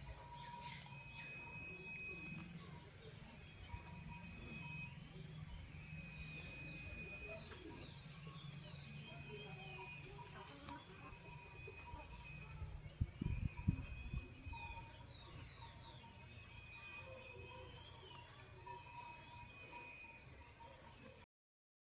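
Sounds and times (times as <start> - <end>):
bird chirps and twittering: 0.0 - 21.2
thin high tone: 0.0 - 21.2.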